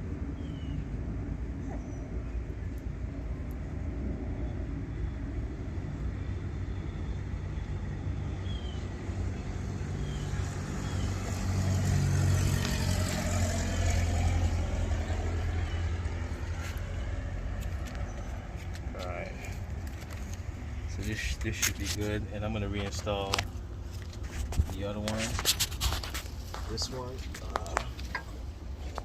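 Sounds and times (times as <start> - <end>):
low traffic rumble: 0.0 - 29.0
motor vehicle passing: 0.3 - 29.0.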